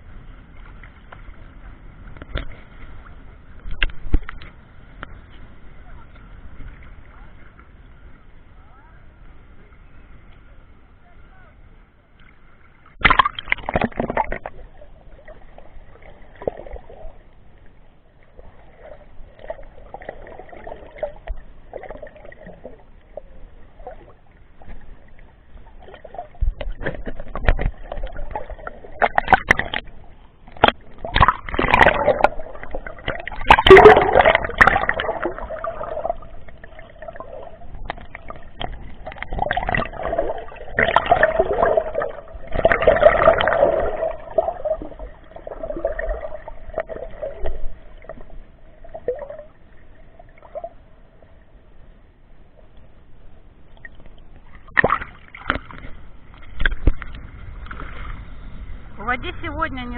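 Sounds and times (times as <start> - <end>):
sea water sloshing and gurgling: 0.0 - 59.9.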